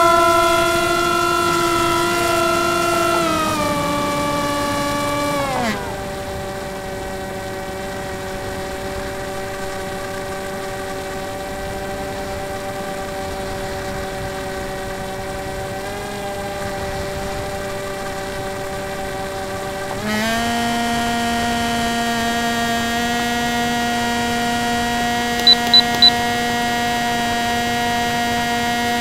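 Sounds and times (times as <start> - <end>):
electric motor and propeller whine: 0.0 - 29.0.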